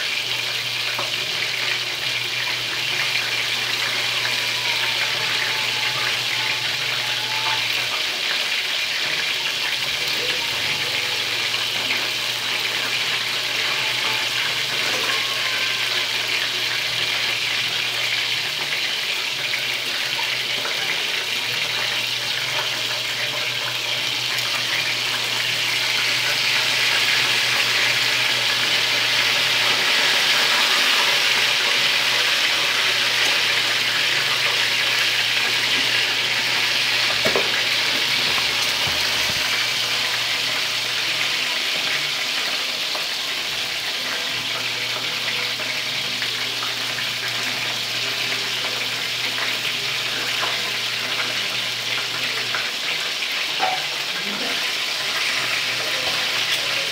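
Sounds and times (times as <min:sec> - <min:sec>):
chicken sizzling in hot oil: 0:00.0 - 0:56.9.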